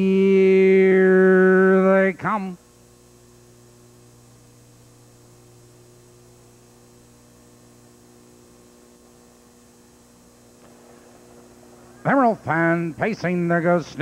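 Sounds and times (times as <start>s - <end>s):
faint electrical mains hum: 0.0s - 14.0s
recording hiss: 0.0s - 14.0s.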